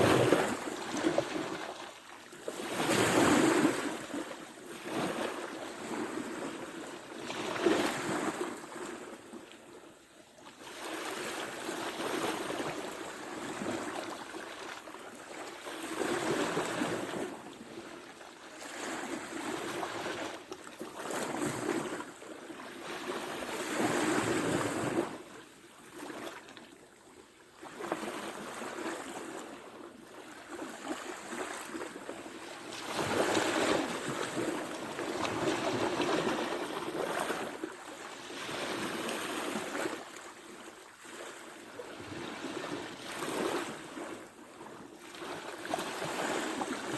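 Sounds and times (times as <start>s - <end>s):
waves breaking on shore: 0.0s - 9.4s, 10.5s - 26.5s, 27.6s - 46.9s.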